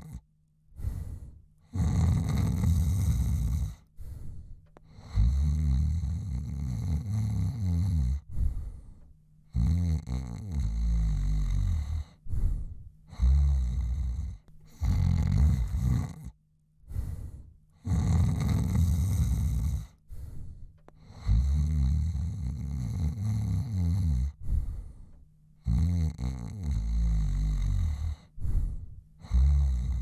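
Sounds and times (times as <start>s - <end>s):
man snoring: 0.0s - 0.2s, 0.8s - 3.9s, 4.9s - 8.8s, 9.5s - 20.0s, 21.0s - 24.9s, 25.6s - 30.0s.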